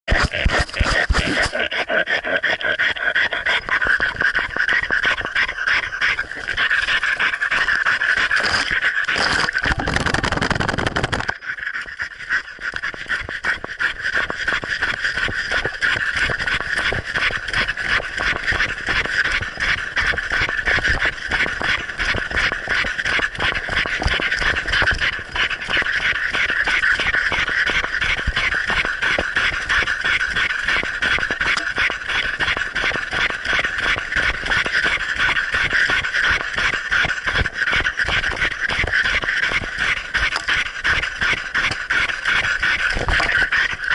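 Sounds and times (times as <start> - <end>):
dog panting: 0.1 - 43.9.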